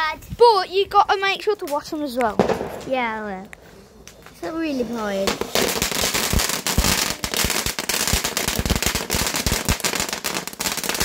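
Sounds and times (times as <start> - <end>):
fireworks crackling: 1.2 - 11.0.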